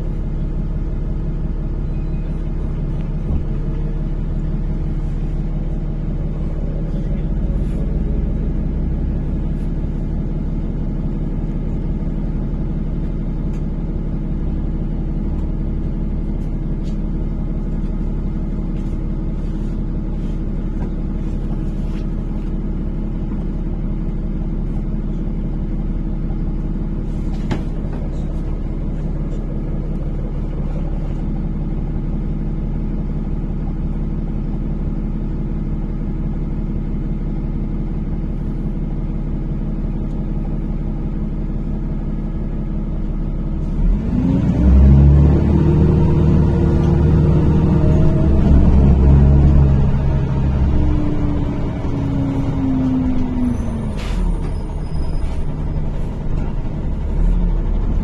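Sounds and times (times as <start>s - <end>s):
bus engine hum: 0.0s - 58.0s
road rumble: 0.0s - 58.0s.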